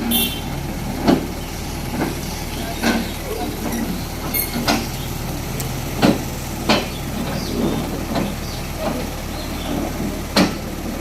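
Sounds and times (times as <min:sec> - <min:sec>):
heavy machine engine running: 0:00.0 - 0:11.0.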